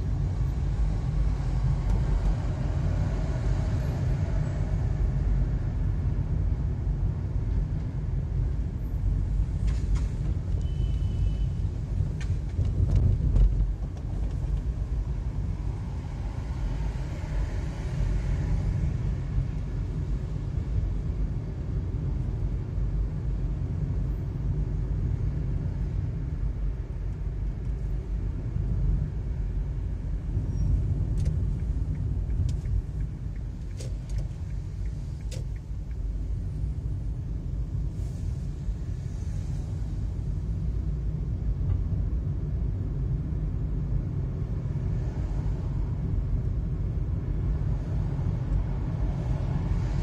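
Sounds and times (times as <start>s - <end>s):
car engine and tyres rumble: 0.0s - 50.0s.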